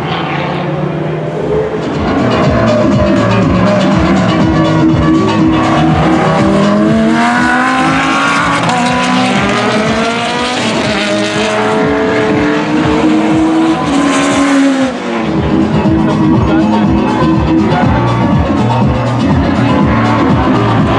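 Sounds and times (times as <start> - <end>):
race car engine accelerating: 0.0 - 20.9.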